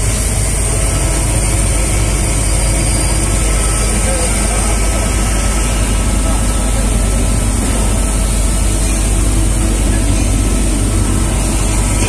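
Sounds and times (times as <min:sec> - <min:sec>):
air compressor humming: 0:00.0 - 0:12.0.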